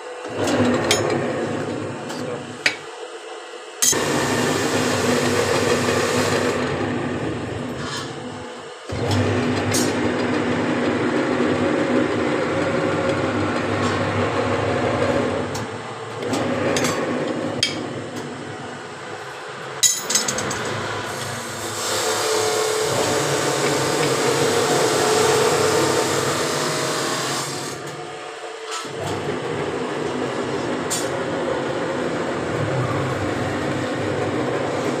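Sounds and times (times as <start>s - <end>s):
workshop machinery humming: 0.0s - 35.0s.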